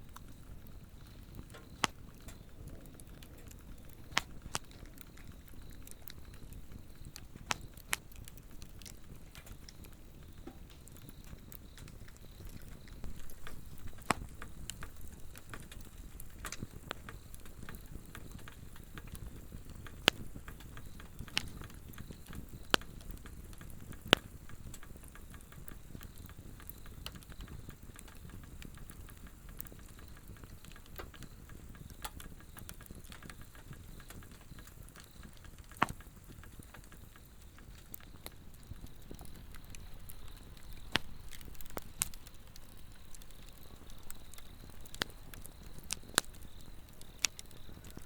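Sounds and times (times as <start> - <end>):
insects trilling: 0.0 - 48.0
log fire crackling: 0.0 - 48.0.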